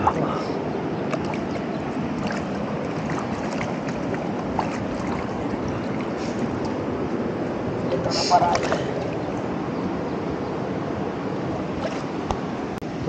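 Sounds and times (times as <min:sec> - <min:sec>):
stream running over rocks: 0:00.0 - 0:12.8.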